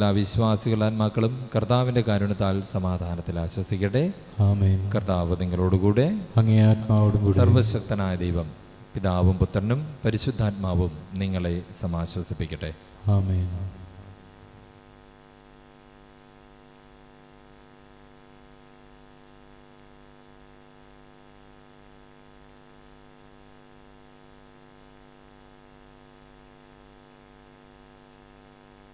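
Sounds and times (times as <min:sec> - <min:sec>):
electrical mains hum: 0:00.0 - 0:28.9.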